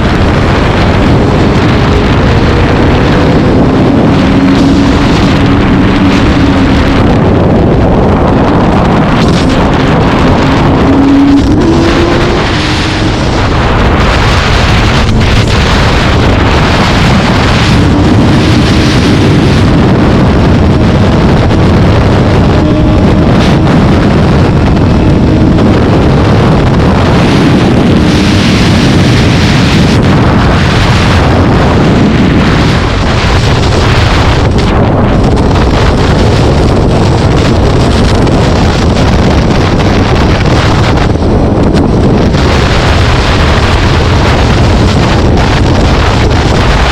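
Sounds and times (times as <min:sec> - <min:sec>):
vehicle engine droning: 0:00.0 - 0:46.9
wind buffeting microphone: 0:00.0 - 0:46.9.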